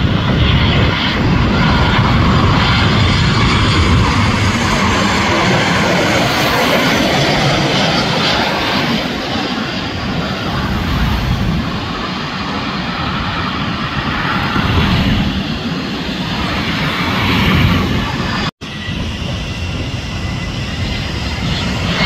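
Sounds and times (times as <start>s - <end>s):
jet engines roaring overhead: 0.0s - 22.0s.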